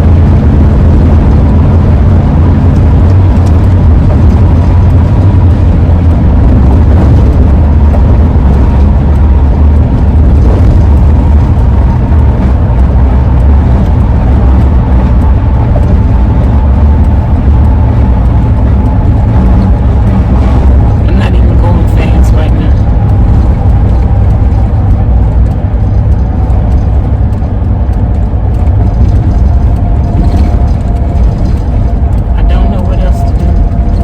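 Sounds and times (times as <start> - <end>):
road and engine rumble in van: 0.0 - 34.0
roof rack howling tone: 0.0 - 34.0.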